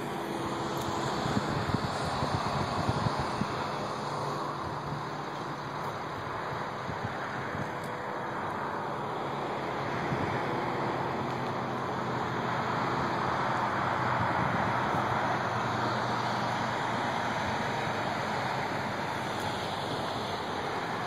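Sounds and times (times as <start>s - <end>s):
highway traffic hiss: 0.0s - 21.0s.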